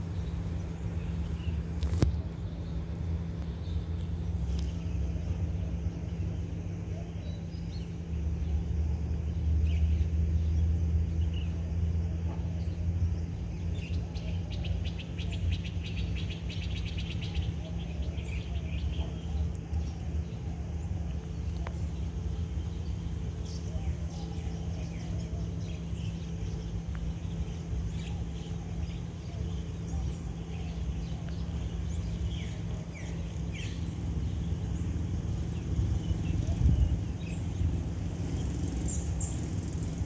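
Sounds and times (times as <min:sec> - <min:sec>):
birds chirping: 0:00.0 - 0:40.0
steady low rumble: 0:00.0 - 0:40.0.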